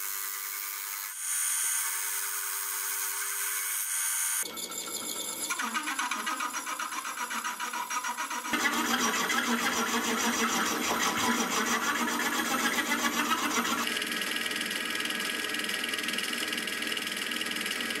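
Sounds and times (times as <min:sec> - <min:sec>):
milling machine cutting metal: 0:00.2 - 0:15.1.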